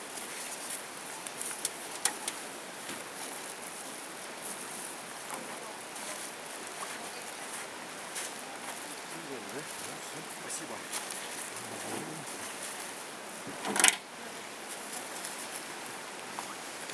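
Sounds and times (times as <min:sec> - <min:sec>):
outdoor hiss: 0:00.0 - 0:16.9.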